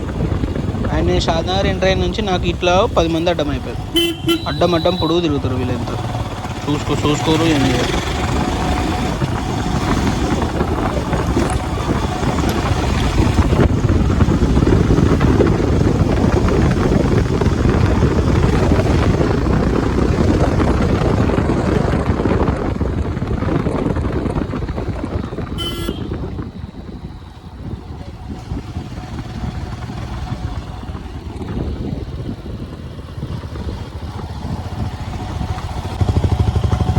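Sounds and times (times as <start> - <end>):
motorcycle engine running: 0.0 - 36.9
wind rushing over microphone: 0.0 - 36.9.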